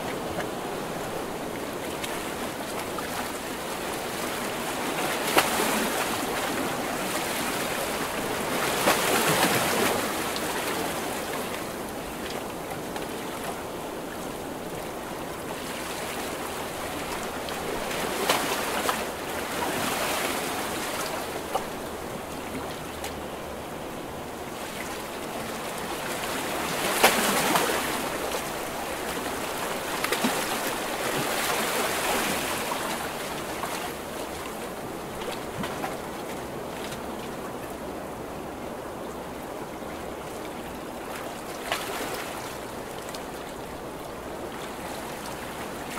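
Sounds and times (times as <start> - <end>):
ocean waves crashing on shore: 0.0 - 45.9.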